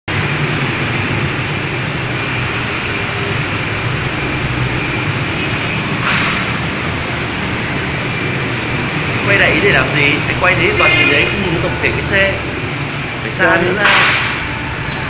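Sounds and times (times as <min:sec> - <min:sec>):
vehicle running hum: 0:00.1 - 0:15.0.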